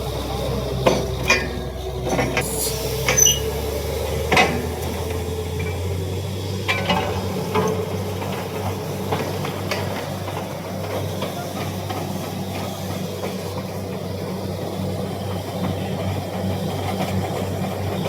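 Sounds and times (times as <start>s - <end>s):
drilling rig engine running: 0.0s - 18.0s.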